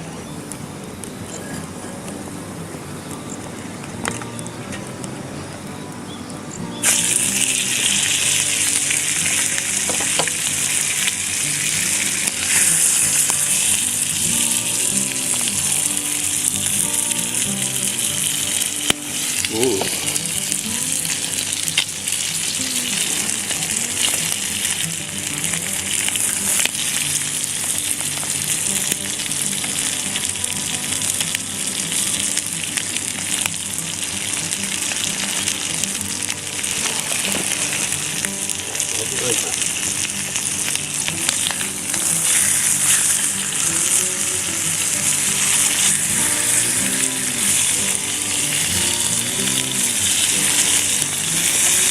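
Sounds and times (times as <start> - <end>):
food sizzling in a pan: 6.6 - 51.9.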